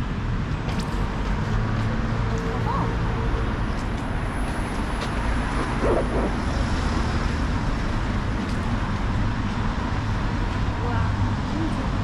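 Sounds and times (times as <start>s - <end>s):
cars passing on street: 0.0s - 12.0s.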